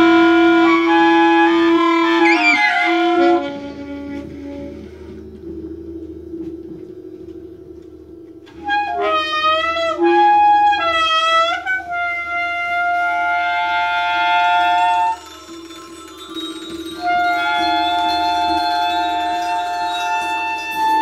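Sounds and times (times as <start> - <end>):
trumpet: 0.0 - 5.2, 8.5 - 21.0
saxophone: 0.0 - 5.4, 8.5 - 21.0
steady low drone: 0.0 - 21.0.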